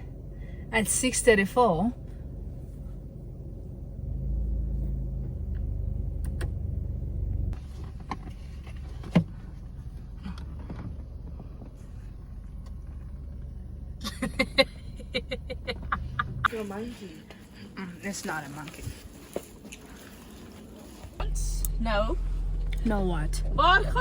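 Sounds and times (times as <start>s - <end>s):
car cabin low rumble: 0.0s - 19.4s, 21.1s - 24.0s.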